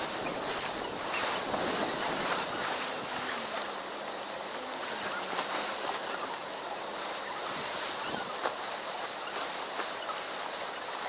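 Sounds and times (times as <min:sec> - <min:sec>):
tent fabric rustling and crinkling: 0:00.0 - 0:11.0.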